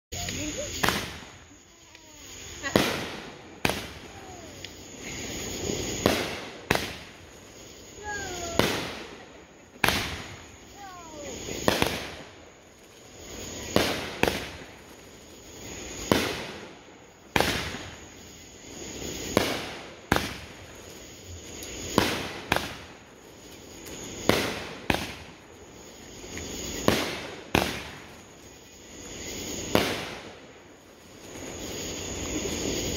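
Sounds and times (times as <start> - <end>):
fireworks bangs: 0.1 - 32.9.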